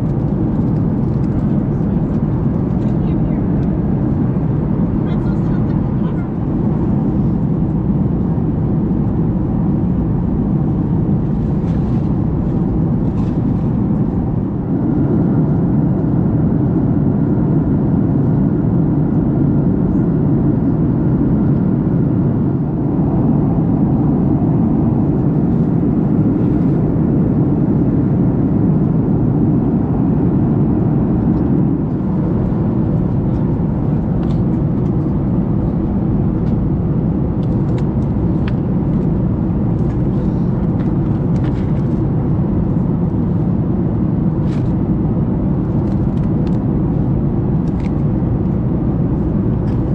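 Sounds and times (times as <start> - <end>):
airplane cabin airflow and engine: 0.0 - 49.9.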